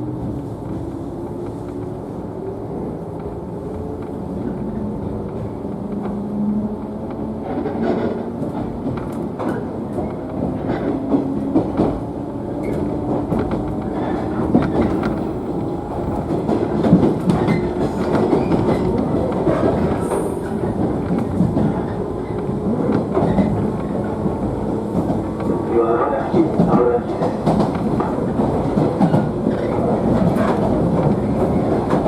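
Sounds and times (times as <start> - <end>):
train running rumble: 0.0 - 32.0.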